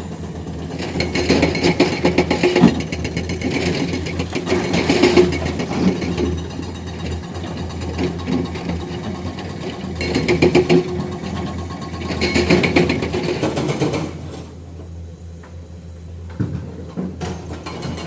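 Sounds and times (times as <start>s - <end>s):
diesel engine clattering: 0.0s - 18.0s.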